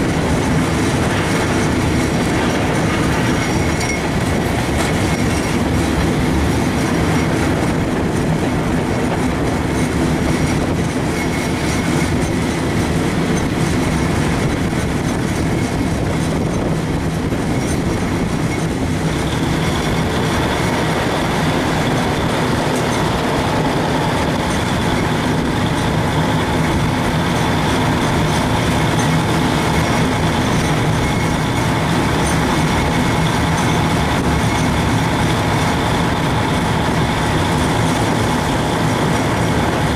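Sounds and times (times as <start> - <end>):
thin whine: 0.0 - 39.9
vehicle running noise: 0.0 - 39.9.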